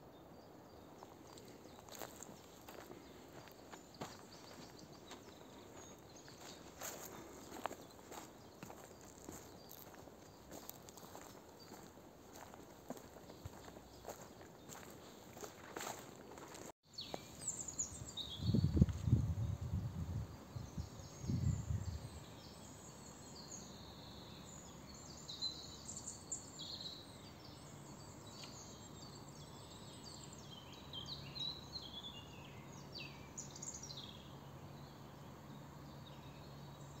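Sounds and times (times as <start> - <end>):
birds singing: 0.0 - 37.0.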